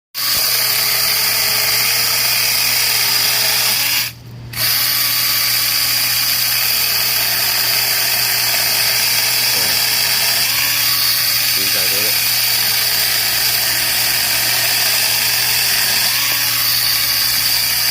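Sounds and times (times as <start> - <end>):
electric chainsaw motor whining: 0.2 - 17.9.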